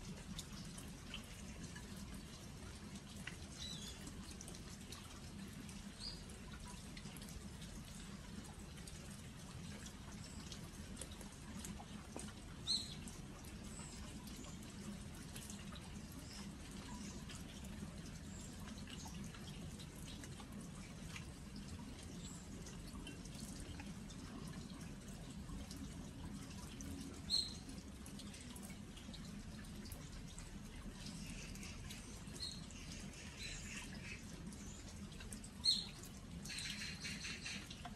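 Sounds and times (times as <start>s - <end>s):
rain dripping on clay crocks: 0.0s - 37.9s.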